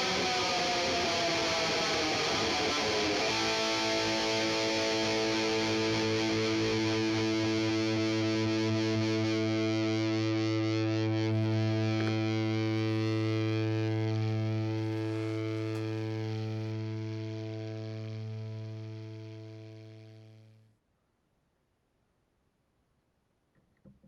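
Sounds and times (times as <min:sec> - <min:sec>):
distorted electric guitar chord: 0:00.0 - 0:20.5.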